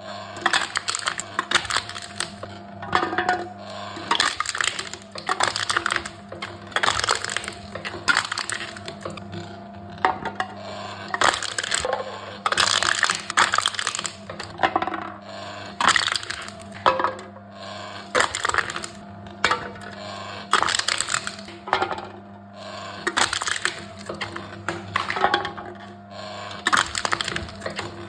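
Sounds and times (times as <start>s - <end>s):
cans crushed by machine: 0.2s - 22.1s, 22.8s - 28.0s.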